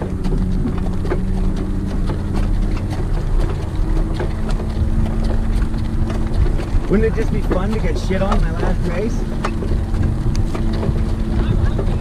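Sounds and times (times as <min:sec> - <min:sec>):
vehicle engine hum: 0:00.0 - 0:12.0
wind on microphone: 0:00.0 - 0:12.0.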